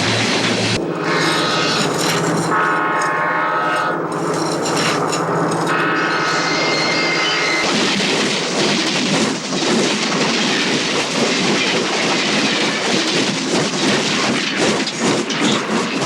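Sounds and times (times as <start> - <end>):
train wheel and track rush: 0.0 - 16.0
wheels clickety-clack: 0.0 - 16.0.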